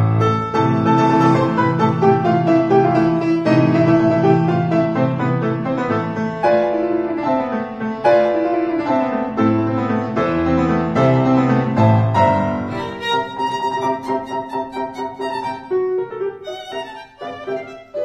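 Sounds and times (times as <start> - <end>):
piano with bowed strings: 0.0 - 18.0.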